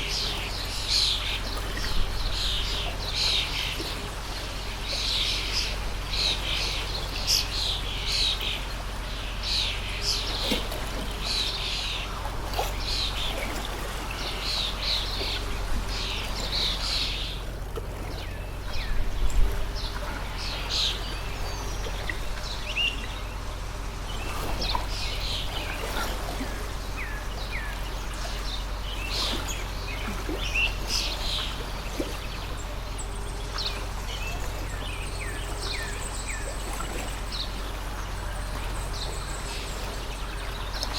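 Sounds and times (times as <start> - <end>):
running stream: 0.0 - 40.9
small birds chirping: 0.0 - 40.9.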